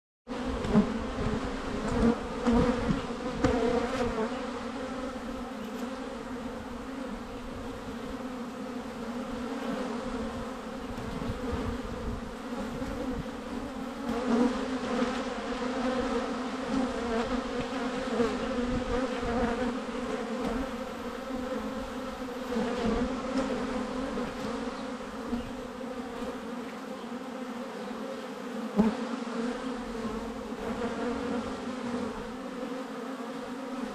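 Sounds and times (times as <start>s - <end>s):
bees buzzing: 0.3s - 33.9s.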